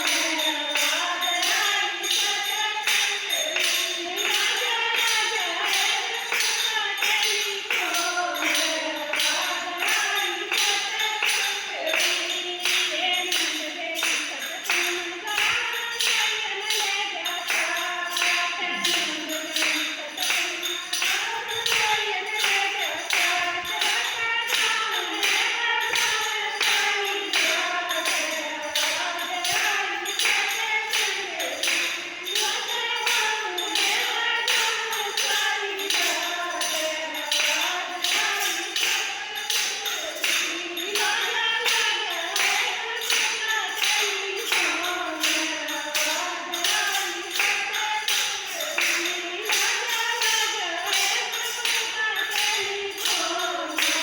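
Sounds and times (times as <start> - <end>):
percussive clapping beat: 0.0 - 54.0
person singing devotional song: 0.0 - 54.0.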